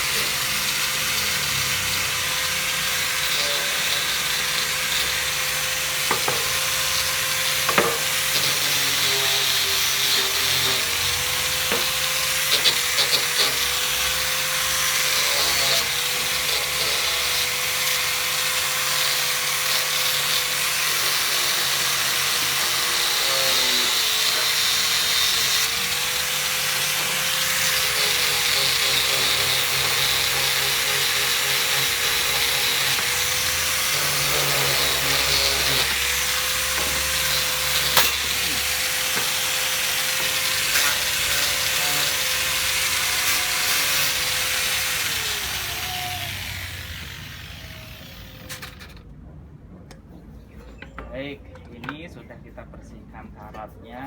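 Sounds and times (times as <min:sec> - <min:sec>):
electric grinder on metal: 0:00.0 - 0:49.0.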